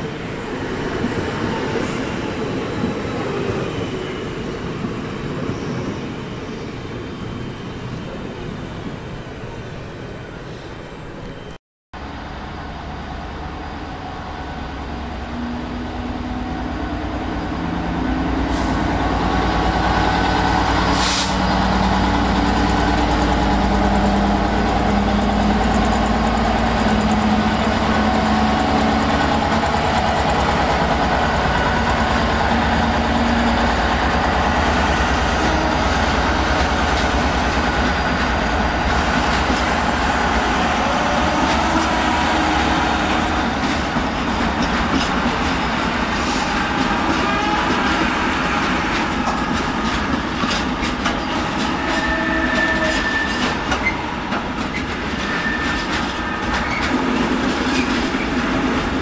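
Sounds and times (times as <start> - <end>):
diesel locomotive engine drone: 0.0 - 59.0
freight train passing: 0.0 - 59.0.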